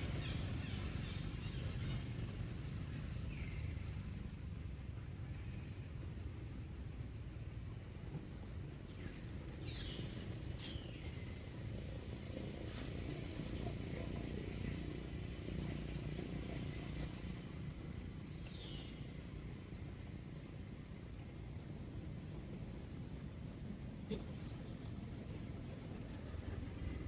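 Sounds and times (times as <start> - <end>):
outdoor background rumble: 0.0 - 27.0.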